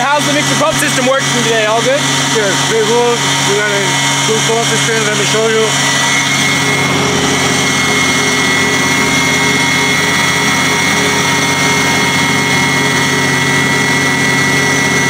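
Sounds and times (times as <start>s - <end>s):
high machine whine: 0.0s - 15.0s
machine drone: 0.0s - 15.0s.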